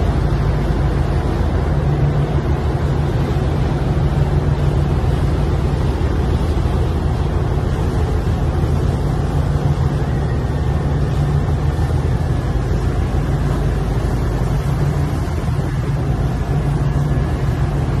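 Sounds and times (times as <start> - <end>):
boat engine drone: 0.0 - 18.0
water rushing: 0.0 - 18.0.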